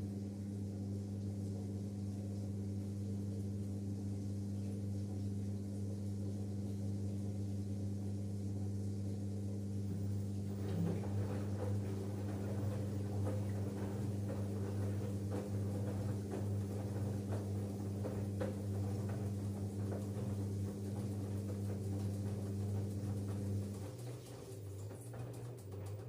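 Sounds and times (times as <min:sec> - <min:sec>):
washing machine spinning hum: 0:00.0 - 0:26.0.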